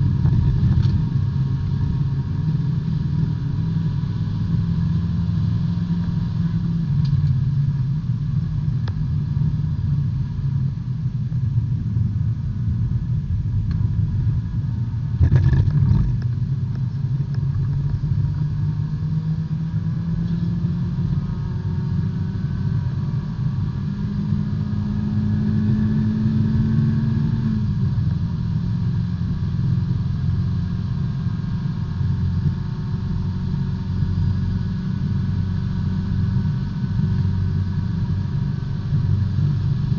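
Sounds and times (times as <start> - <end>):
race car engine running: 0.0 - 39.9
road and tyre noise: 0.0 - 39.9.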